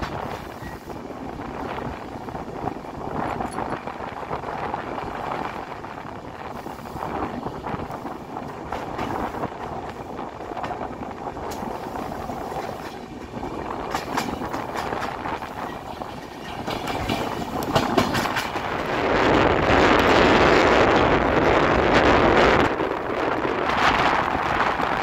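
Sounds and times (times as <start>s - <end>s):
train wheels rushing on rails: 0.0s - 25.0s
wheels clicking over rail joints: 0.0s - 25.0s
wind rushing: 0.0s - 25.0s.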